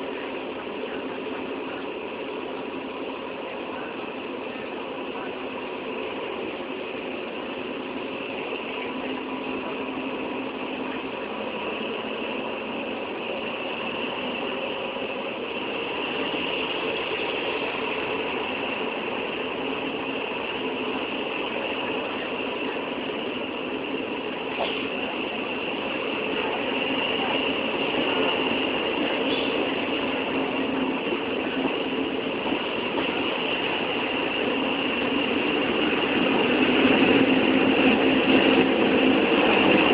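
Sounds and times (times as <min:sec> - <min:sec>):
train engine drone and rattle: 0:00.0 - 0:39.9.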